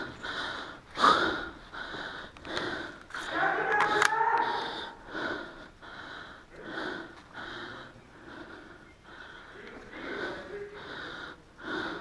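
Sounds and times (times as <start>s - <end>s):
person breathing hard: 0.0s - 3.5s, 4.4s - 12.0s.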